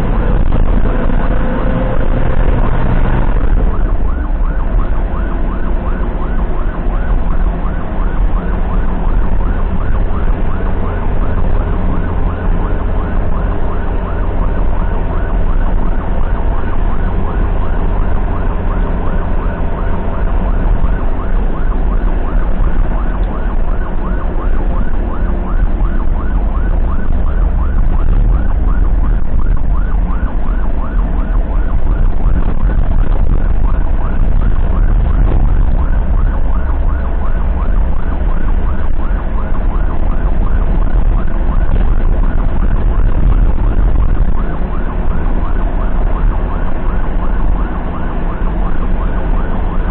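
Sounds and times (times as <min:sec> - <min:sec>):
ambulance siren wailing: 0:00.0 - 0:49.9
engine and tyres rumbling: 0:00.0 - 0:49.9.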